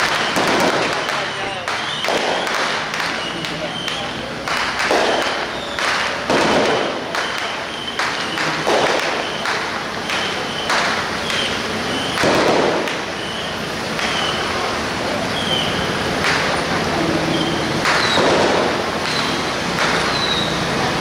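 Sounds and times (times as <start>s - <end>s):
firecrackers popping: 0.0s - 21.0s
truck diesel engine running: 0.0s - 21.0s.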